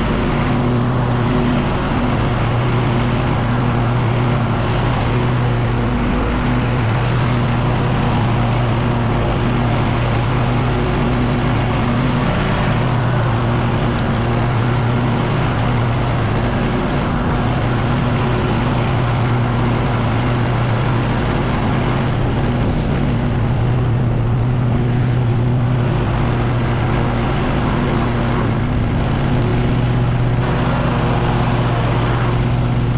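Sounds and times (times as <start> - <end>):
leaf blower engine running: 0.0 - 32.9.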